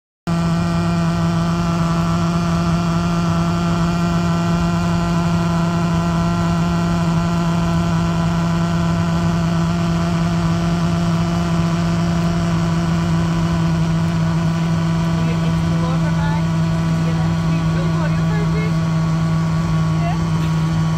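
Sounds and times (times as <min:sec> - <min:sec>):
loudspeaker electrical buzz: 0:00.3 - 0:20.9.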